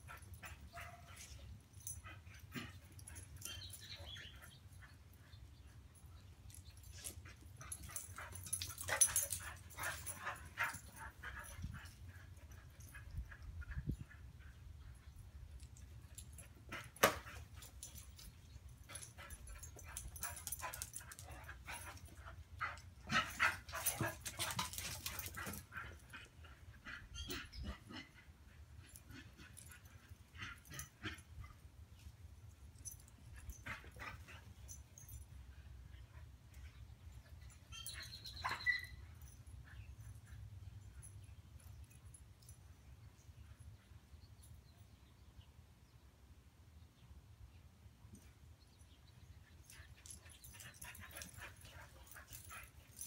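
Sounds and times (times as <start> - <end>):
puppies playing: 0.0 - 42.7, 49.4 - 53.0.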